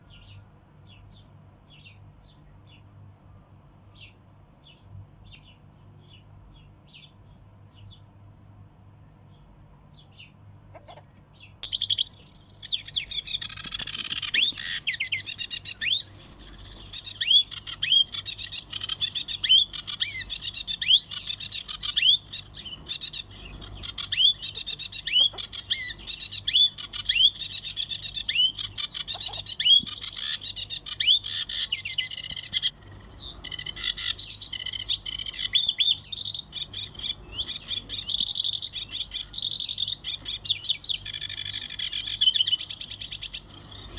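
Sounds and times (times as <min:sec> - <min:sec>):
small birds chirping: 0:00.0 - 0:08.1, 0:09.0 - 0:43.9.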